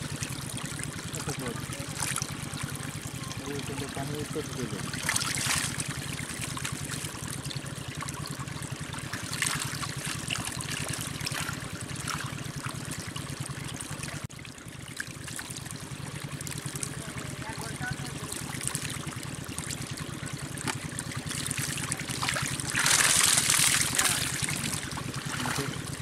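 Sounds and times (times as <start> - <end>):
small water splashes: 0.0 - 26.0
water trickling and flowing: 0.0 - 26.0.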